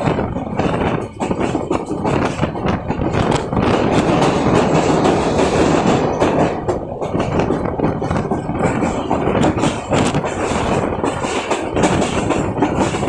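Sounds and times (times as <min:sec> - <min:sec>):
train rumbling: 0:00.0 - 0:13.0
wheels clacking over rail joints: 0:00.0 - 0:13.0.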